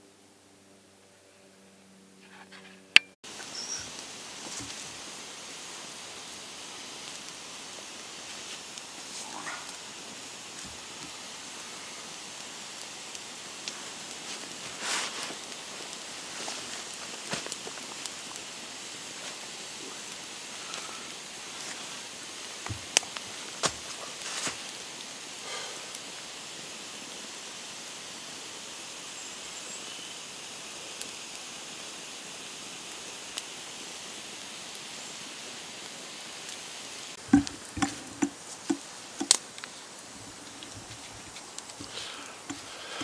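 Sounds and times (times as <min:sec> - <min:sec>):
wood fire hissing and crackling: 0:03.2 - 0:43.0.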